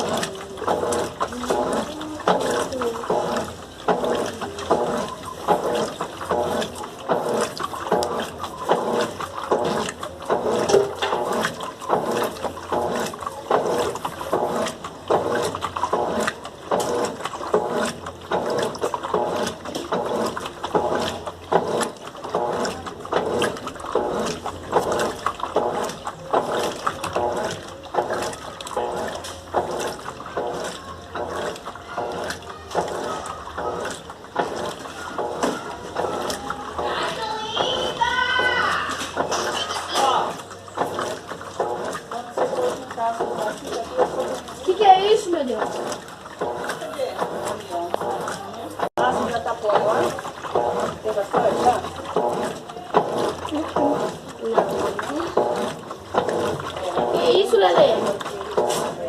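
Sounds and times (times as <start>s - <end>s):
washing machine sloshing water: 0.0s - 59.0s.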